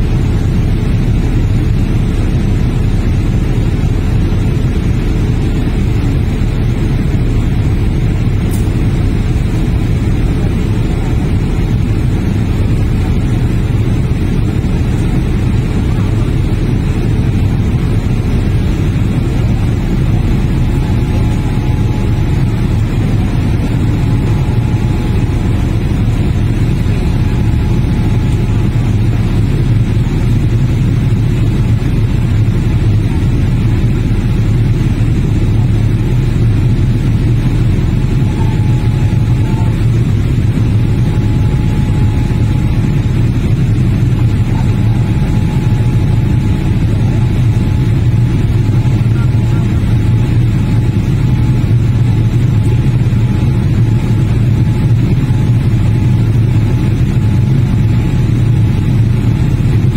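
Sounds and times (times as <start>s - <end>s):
faint steady whine: 0.0s - 59.9s
jet cabin engine roar: 0.0s - 59.9s.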